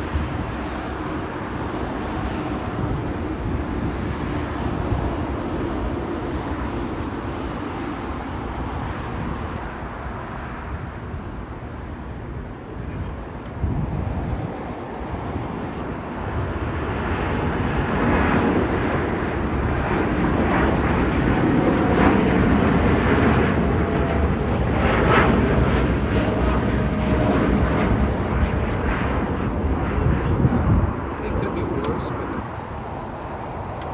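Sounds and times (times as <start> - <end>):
jet airliner engine rumble: 0.0 - 33.9.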